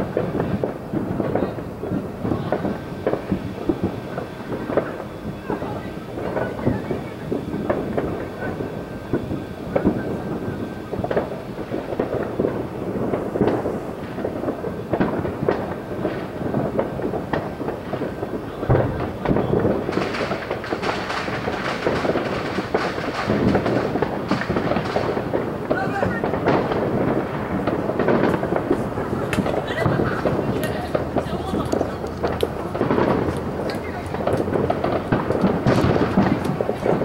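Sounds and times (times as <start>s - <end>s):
deep firework boom: 0.0s - 37.0s
distant fireworks crackling: 0.0s - 37.0s.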